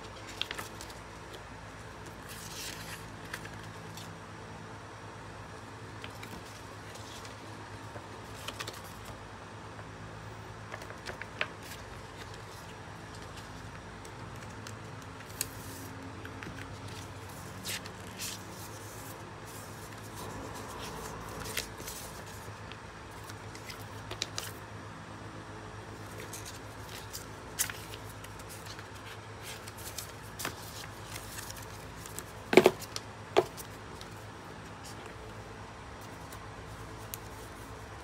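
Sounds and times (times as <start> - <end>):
paper rustling: 0.0 - 4.1, 6.0 - 9.2, 10.7 - 24.6, 26.0 - 35.4
steady low hum: 0.0 - 38.0.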